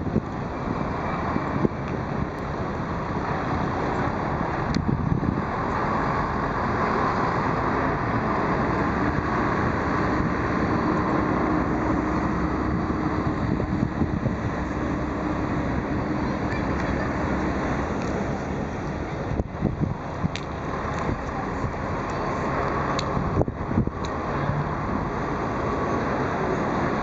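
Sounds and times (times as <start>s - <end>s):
engine rumble: 0.0s - 27.0s
wind noise: 0.0s - 27.0s.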